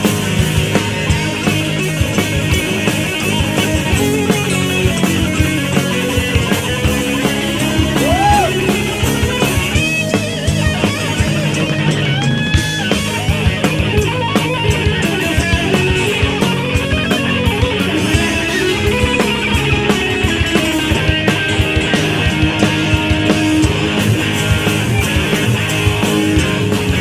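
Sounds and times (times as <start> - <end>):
drums steady beat: 0.0 - 27.0
electric guitar lead: 0.0 - 27.0.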